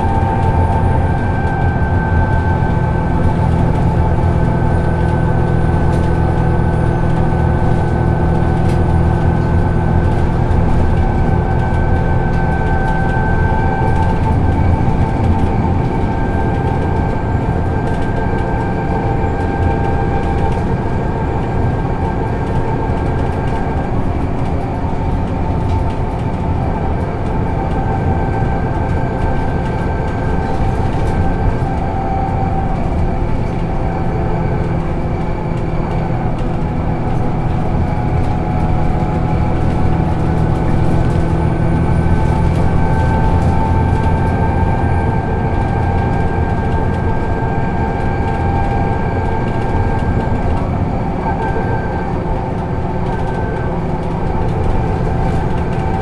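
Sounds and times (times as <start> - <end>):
bus diesel engine drone: 0.0 - 56.0
drivetrain whine: 0.0 - 56.0.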